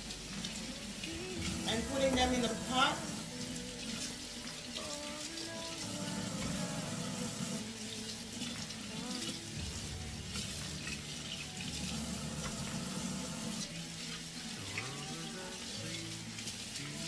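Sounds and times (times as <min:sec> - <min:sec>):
faucet water splashing on meat: 0:00.0 - 0:17.0.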